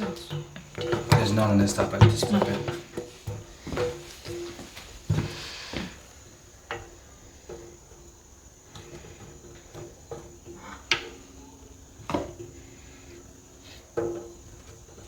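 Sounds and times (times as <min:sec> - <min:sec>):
faint steady hum: 0:00.0 - 0:15.0
wooden frames knocking and clattering: 0:00.0 - 0:15.0.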